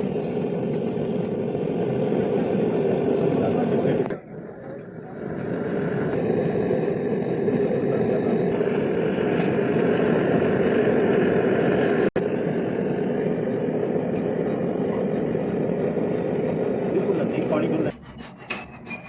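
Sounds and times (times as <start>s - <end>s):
gas torch flame rushing: 0.0s - 19.0s.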